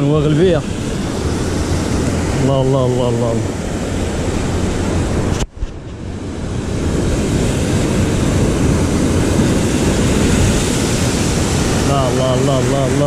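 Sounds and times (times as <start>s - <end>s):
rough surf on rocks: 0.0s - 13.0s
wind buffeting microphone: 0.0s - 13.0s.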